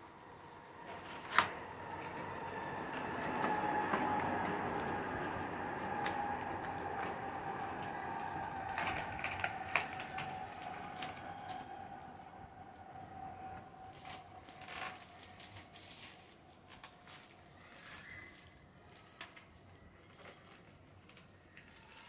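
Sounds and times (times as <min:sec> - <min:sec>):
packaging rustling and crinkling: 0:00.2 - 0:02.2, 0:04.8 - 0:12.4, 0:13.8 - 0:22.0.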